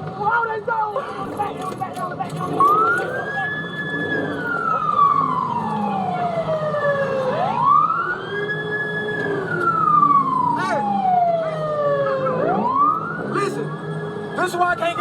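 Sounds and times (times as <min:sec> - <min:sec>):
police siren wailing: 0:00.6 - 0:15.0.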